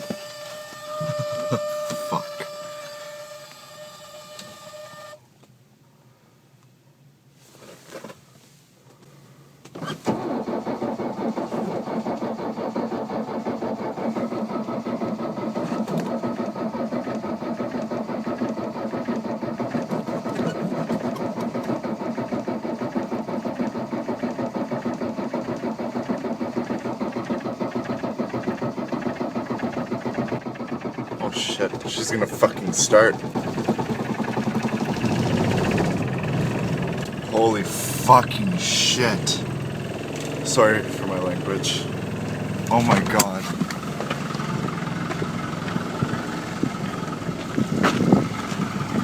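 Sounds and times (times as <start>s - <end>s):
diesel engine cranking: 0.0s - 5.2s, 9.8s - 49.0s.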